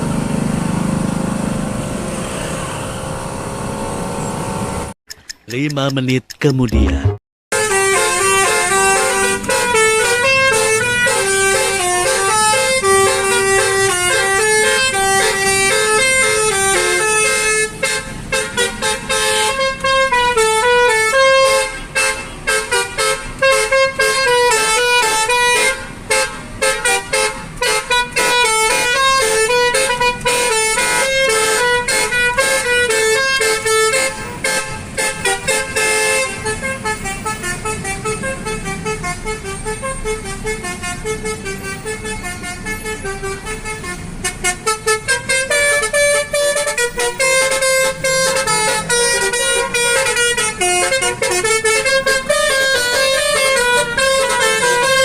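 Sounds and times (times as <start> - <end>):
musical car horn playing: 7.5 - 55.0.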